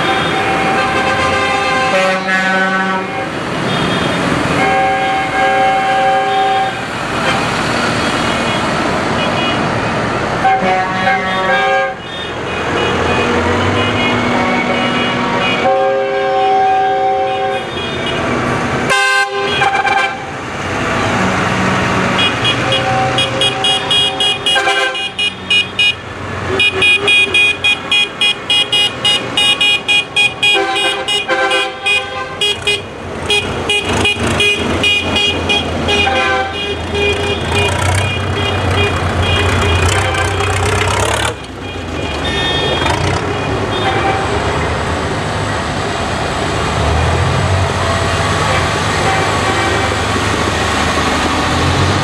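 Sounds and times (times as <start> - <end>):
tractor engines running: 0.0 - 15.7, 20.2 - 52.0
tractor horns honking: 0.0 - 44.8, 47.9 - 51.0.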